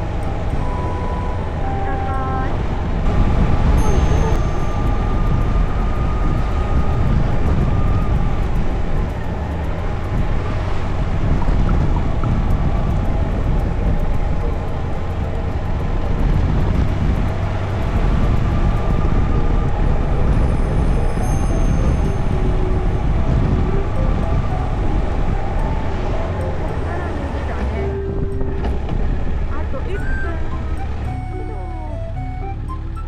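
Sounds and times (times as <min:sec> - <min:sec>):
wind buffeting microphone: 0:00.0 - 0:33.0
motorcycle engine running: 0:02.9 - 0:31.2.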